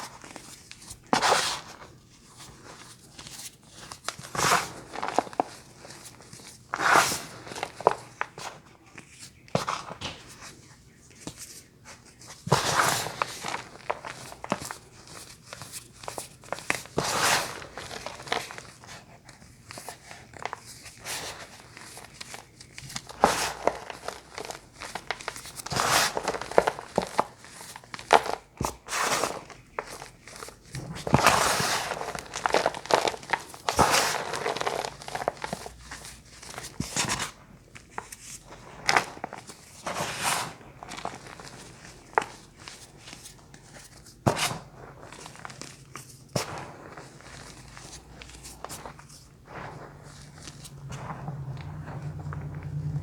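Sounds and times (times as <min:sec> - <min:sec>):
crunchy bars crunching and crinkling: 0:00.0 - 0:10.6, 0:12.2 - 0:53.0.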